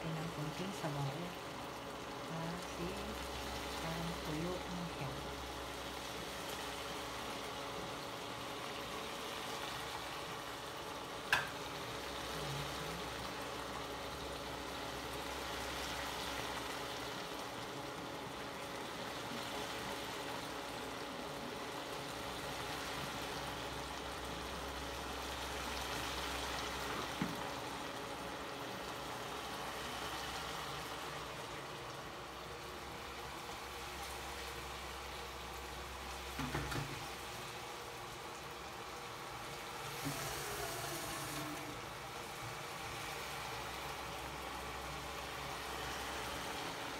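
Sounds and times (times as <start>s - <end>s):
food sizzling in pot: 0.0s - 46.9s.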